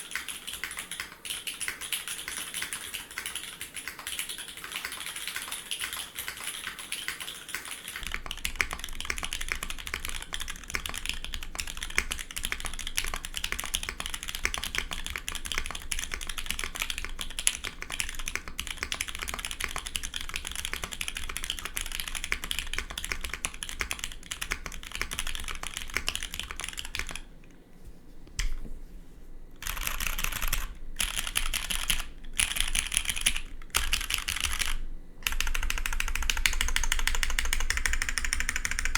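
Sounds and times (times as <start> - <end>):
mechanical keyboard typing: 0.0 - 27.3, 29.6 - 38.9.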